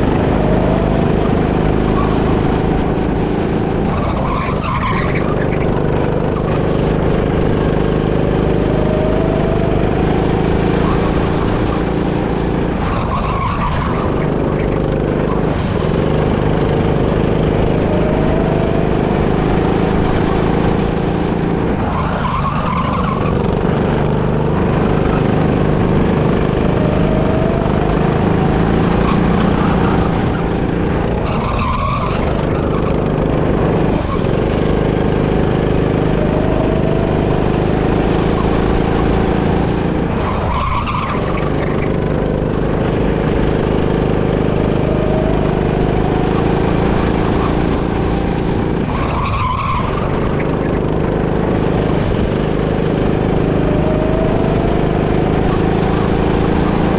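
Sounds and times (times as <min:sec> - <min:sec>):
go-kart motor droning: 0:00.0 - 0:56.9
tyre and road noise: 0:00.0 - 0:56.9.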